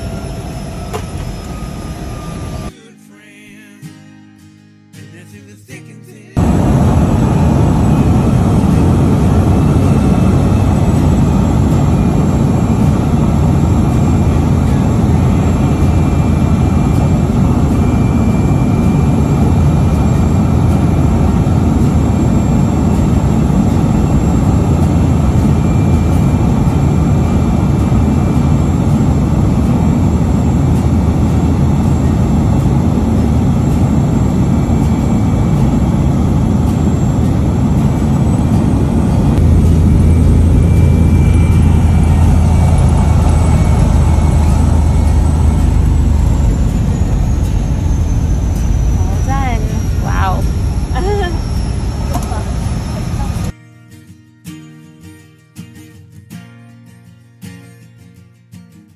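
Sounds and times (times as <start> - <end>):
propeller plane engine droning: 0.0 - 2.7, 6.4 - 53.5.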